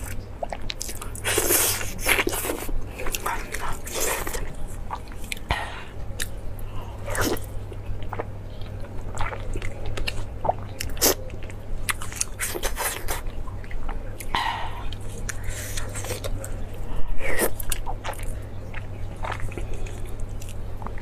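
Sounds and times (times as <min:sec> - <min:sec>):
person chewing crunchy fish: 0:00.0 - 0:16.7, 0:17.3 - 0:21.0.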